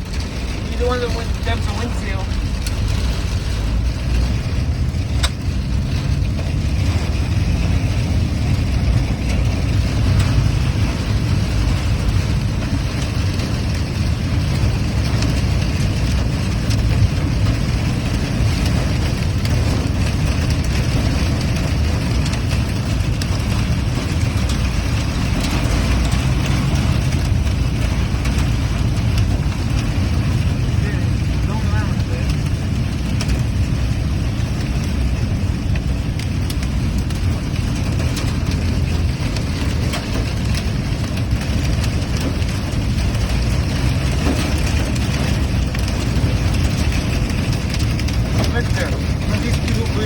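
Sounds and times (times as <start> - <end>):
engine and tyre rumble: 0.0 - 50.0.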